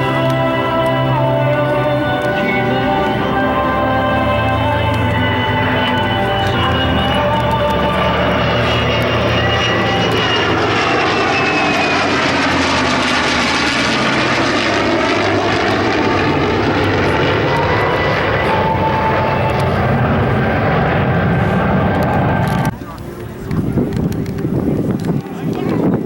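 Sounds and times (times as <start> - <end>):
aircraft engine flying past: 0.0 - 26.0.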